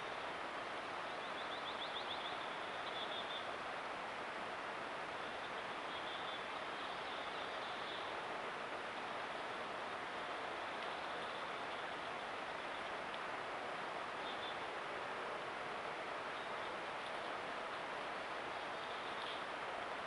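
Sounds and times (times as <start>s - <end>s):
small bird song: 0.0s - 3.6s, 5.1s - 13.0s, 14.0s - 14.8s, 16.2s - 20.0s
microphone hiss: 0.0s - 20.0s.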